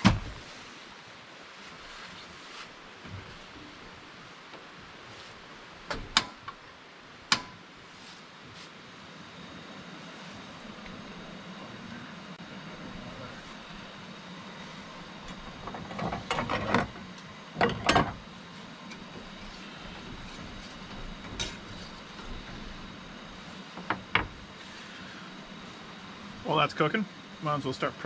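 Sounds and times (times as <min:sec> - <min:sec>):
camp stove burner hissing: 0:00.0 - 0:28.0.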